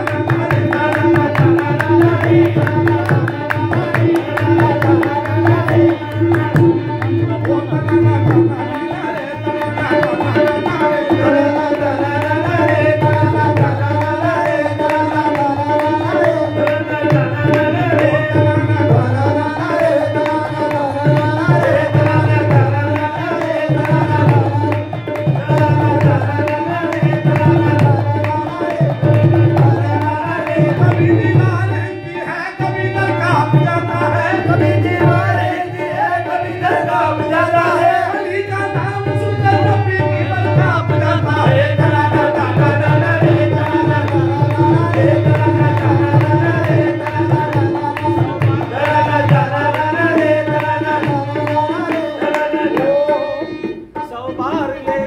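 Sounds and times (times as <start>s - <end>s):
hand drum rhythm: 0.0s - 55.0s
harmonium chords: 0.0s - 55.0s
man singing: 0.0s - 55.0s.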